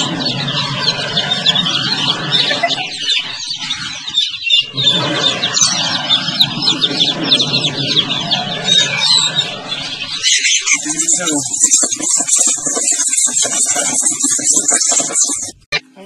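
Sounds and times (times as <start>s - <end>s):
baby chicks peeping: 0.0s - 16.0s.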